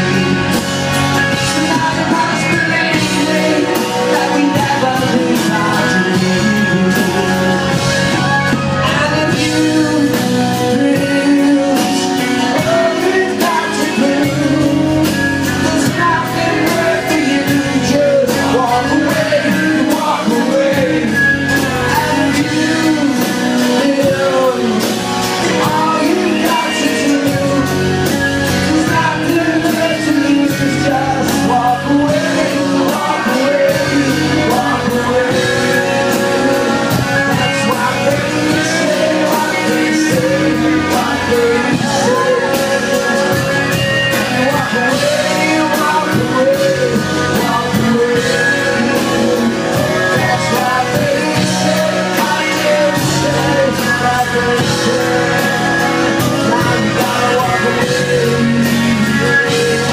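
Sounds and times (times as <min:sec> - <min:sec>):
man singing: 0:00.0 - 0:59.9.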